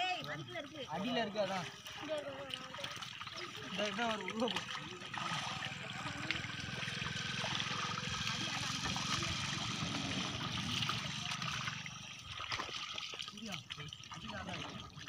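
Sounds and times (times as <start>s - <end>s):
muddy water sloshing: 0.0s - 15.0s.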